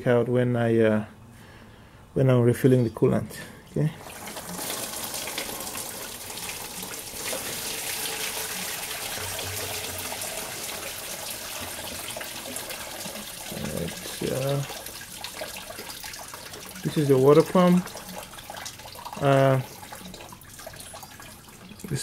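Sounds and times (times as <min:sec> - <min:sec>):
coolant splashing into pan: 0:04.0 - 0:22.0.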